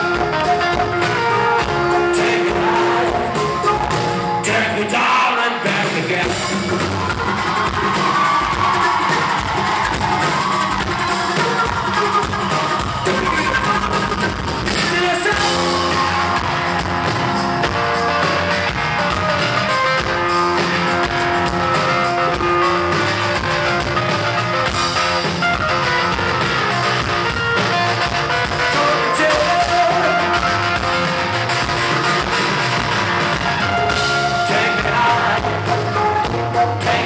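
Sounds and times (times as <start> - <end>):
guitar melody: 0.0 - 4.9, 6.3 - 37.0
instrumental rock music: 0.0 - 37.0.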